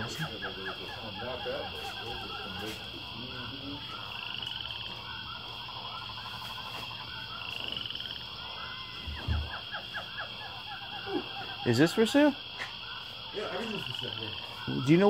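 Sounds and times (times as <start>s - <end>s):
animal chirps and trills: 0.0s - 15.0s
steady high-pitched whine: 0.0s - 15.0s.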